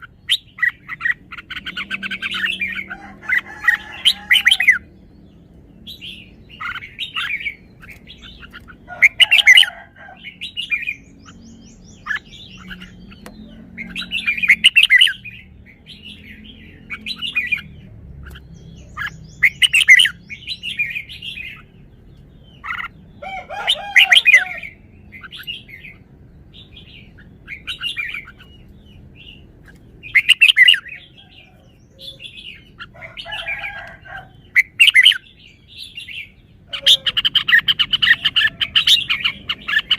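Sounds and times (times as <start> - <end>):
bird singing: 0.0 - 39.9
soft bird chirps: 0.0 - 39.9.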